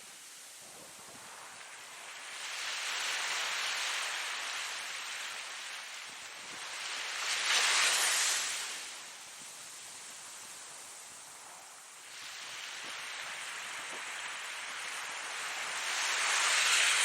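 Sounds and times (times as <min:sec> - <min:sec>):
ocean waves washing in: 0:00.2 - 0:17.0.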